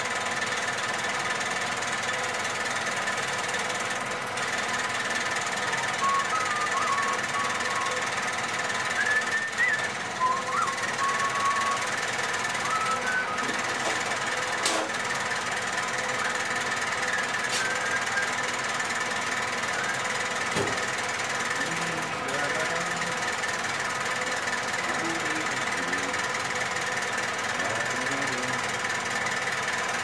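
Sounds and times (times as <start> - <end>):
lathe humming and whining: 0.0 - 30.0.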